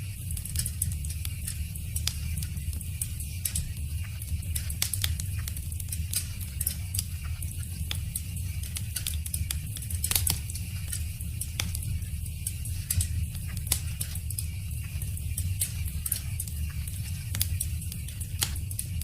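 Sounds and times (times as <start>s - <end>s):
wood fire crackling and popping: 0.1s - 19.0s.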